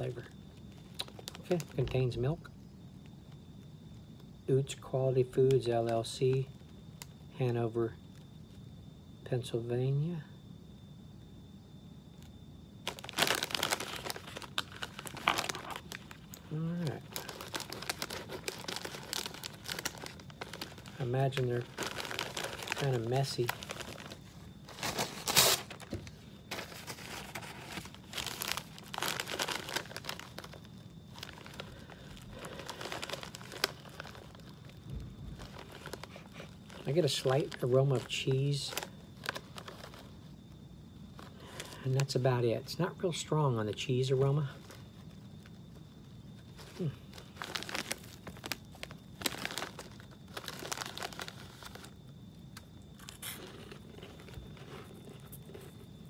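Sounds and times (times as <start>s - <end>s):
plastic snack bag crinkling: 0.0s - 2.4s, 12.2s - 40.4s, 41.1s - 56.0s.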